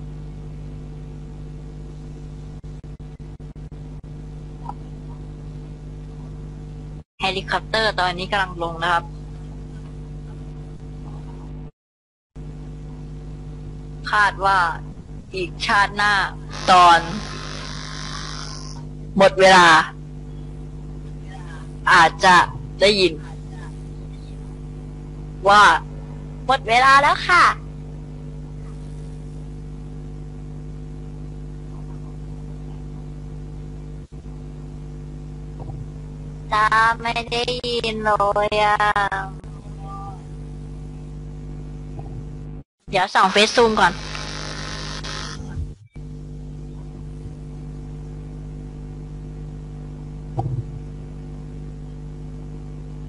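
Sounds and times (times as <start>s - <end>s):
low hum of held tones: 0.0s - 11.7s, 12.4s - 53.0s.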